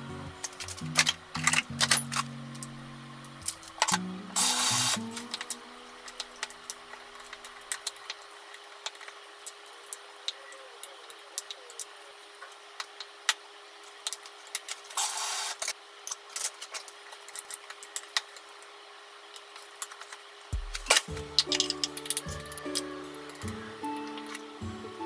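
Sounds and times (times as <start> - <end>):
faint steady hum: 0.0 - 15.9, 16.6 - 25.0.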